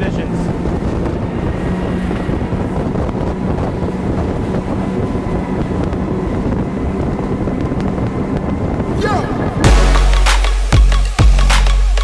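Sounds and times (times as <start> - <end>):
wind on microphone: 0.0 - 9.8
outboard engines at speed: 0.0 - 12.0.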